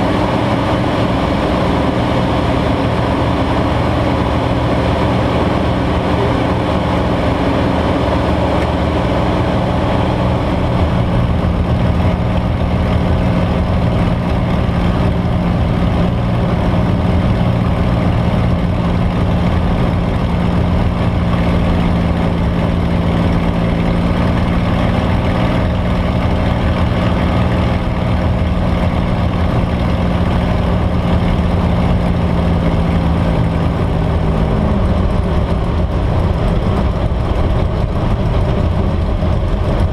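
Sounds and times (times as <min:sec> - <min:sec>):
airplane engine running: 0:00.0 - 0:39.9.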